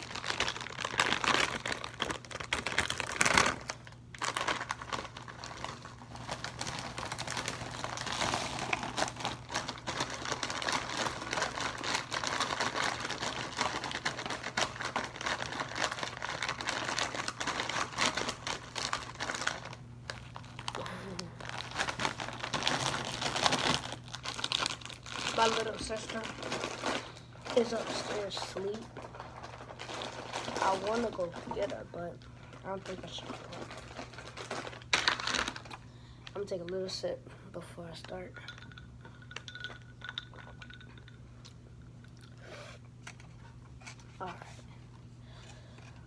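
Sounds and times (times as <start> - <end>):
snack bag crinkling and rustling: 0.0 - 36.8, 38.5 - 46.0.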